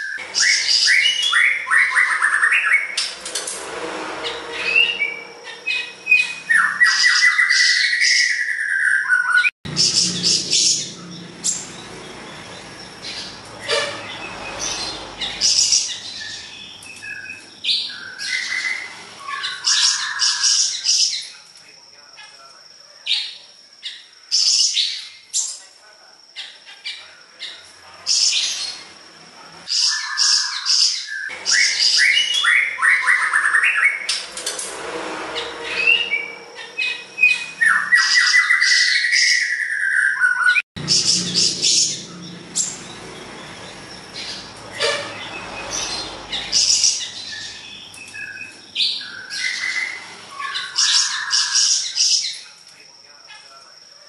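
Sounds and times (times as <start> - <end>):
songbird singing: 0.0 - 3.2, 4.3 - 34.3, 35.4 - 54.0.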